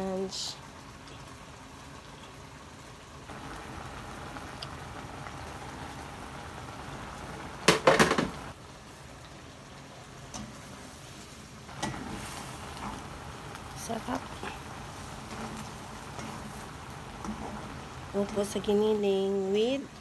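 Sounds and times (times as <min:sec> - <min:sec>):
broth boiling in a wok: 0:00.0 - 0:20.0.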